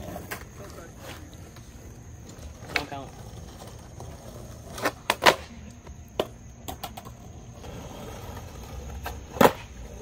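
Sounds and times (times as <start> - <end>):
skateboard clacking on street: 0.0 - 10.0
skateboard wheels rolling: 0.0 - 10.0.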